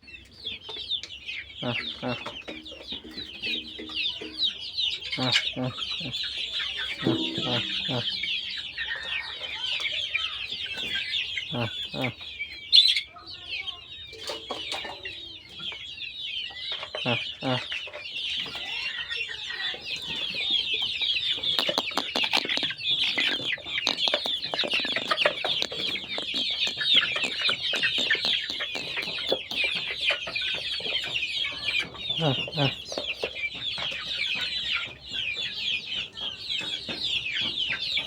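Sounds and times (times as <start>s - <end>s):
chickens peeping and clucking: 0.0s - 38.0s.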